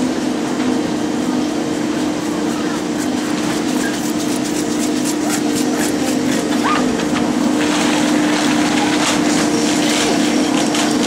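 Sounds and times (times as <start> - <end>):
lift machinery hum: 0.0 - 11.0.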